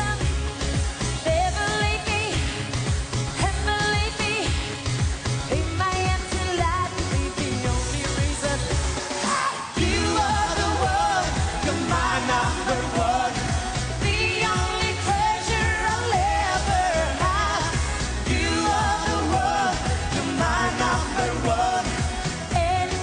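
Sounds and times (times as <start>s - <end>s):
pop song with dance beat: 0.0s - 23.0s
woman singing: 1.2s - 2.7s, 3.4s - 4.7s, 5.5s - 23.0s.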